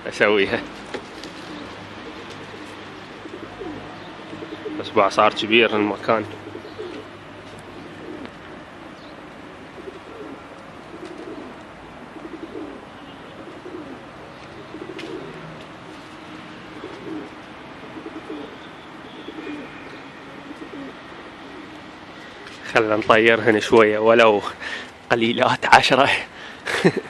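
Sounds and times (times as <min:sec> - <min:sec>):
pigeons cooing: 0:00.2 - 0:23.6.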